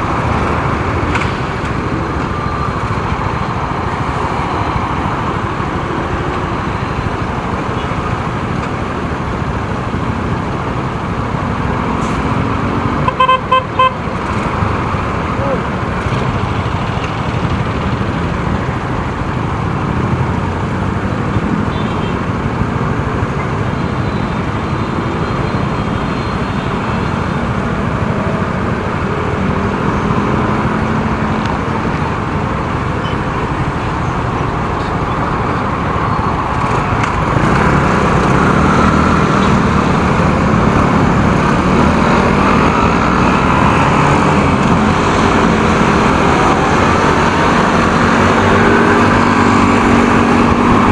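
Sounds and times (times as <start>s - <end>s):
road traffic noise: 0.0s - 50.9s.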